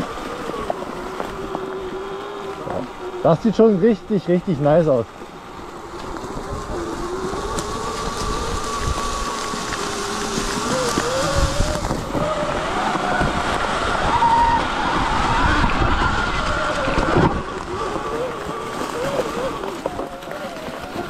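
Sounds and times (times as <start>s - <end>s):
electric dirt bike motor whining: 0.0s - 21.0s.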